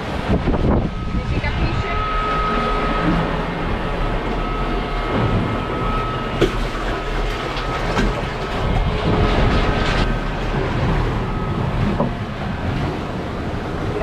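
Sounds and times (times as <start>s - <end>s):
wind and water rushing: 0.0s - 14.0s
rattling and knocking aboard: 2.4s - 14.0s.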